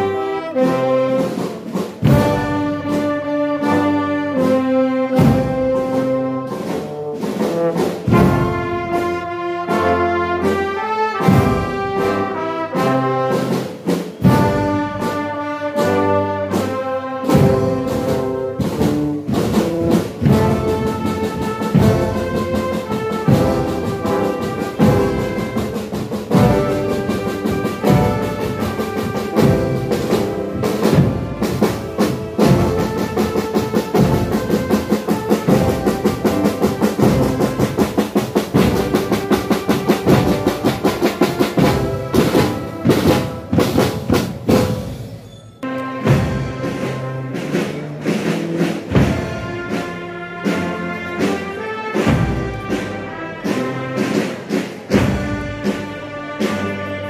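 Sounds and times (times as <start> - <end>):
steady drum beat: 0.0 - 45.2, 46.0 - 57.0
brass band playing: 0.0 - 57.0.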